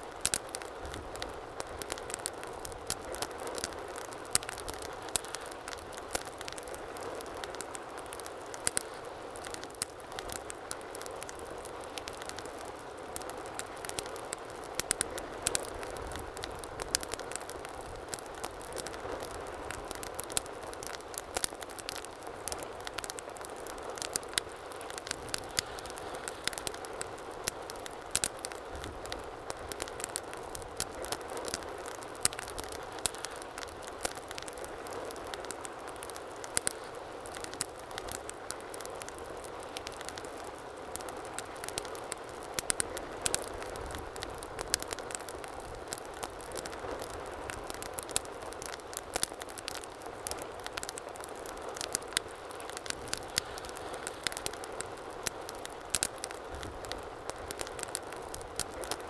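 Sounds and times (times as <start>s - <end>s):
fire crackles and pops: 0.0s - 59.0s
low hiss of flames: 0.2s - 59.0s.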